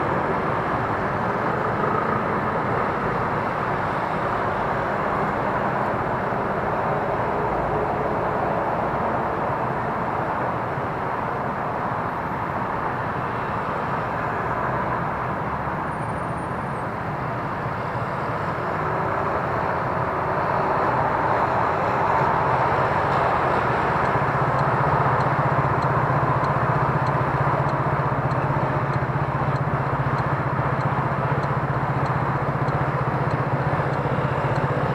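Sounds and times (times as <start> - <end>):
wind and road rushing: 0.0 - 34.9.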